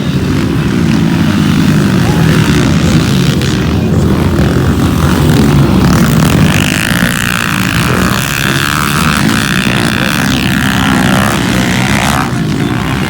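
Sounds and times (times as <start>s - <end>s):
high engine whine: 0.0s - 13.0s
motocross bike engines: 0.0s - 13.0s.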